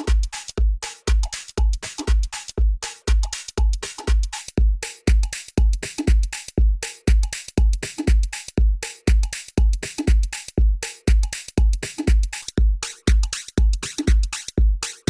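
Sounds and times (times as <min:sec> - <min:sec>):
hi-hats and percussion: 0:00.0 - 0:15.0
kick drum: 0:00.0 - 0:15.0.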